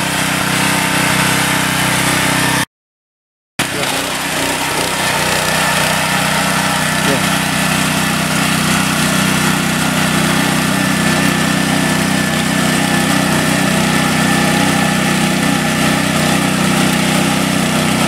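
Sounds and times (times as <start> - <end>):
small engine running under load: 0.0 - 2.7, 3.6 - 18.0.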